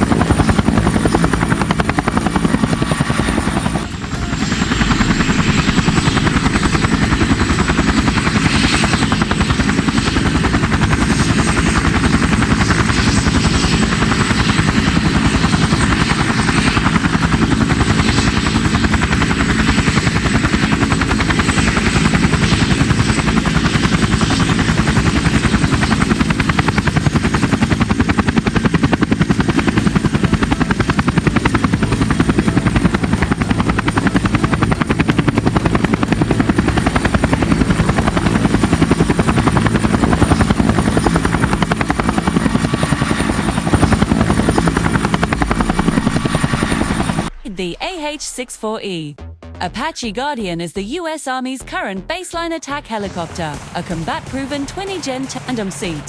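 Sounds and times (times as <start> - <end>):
high turbine whine: 0.0 - 48.6
helicopter rotor blade chop: 0.0 - 56.0.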